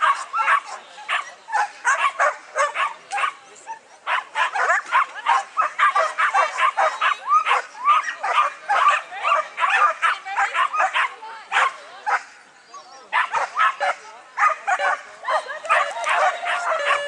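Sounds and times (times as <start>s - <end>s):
dogs barking: 0.0s - 12.3s, 13.1s - 17.0s.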